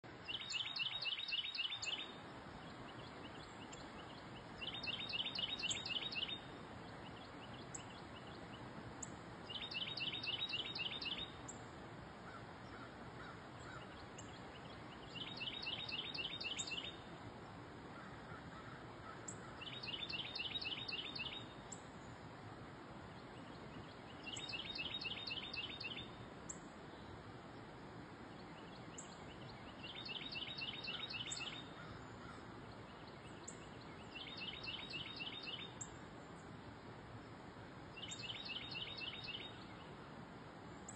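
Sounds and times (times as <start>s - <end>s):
songbird singing a trill: 0.0s - 11.6s, 13.6s - 17.2s, 18.0s - 22.2s, 23.2s - 27.2s, 28.3s - 36.6s, 37.9s - 40.0s
faint outdoor hiss: 0.0s - 40.9s.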